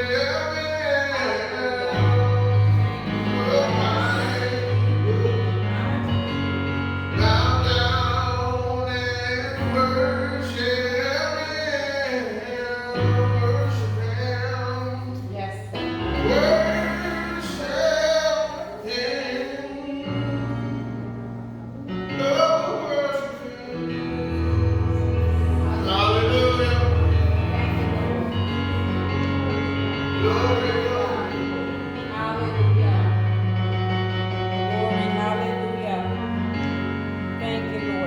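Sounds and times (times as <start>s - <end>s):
gospel song with singing: 0.0s - 38.0s.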